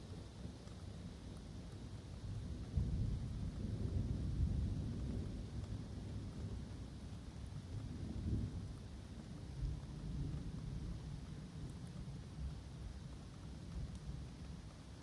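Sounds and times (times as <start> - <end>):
rain falling in woodland: 0.1 - 15.0.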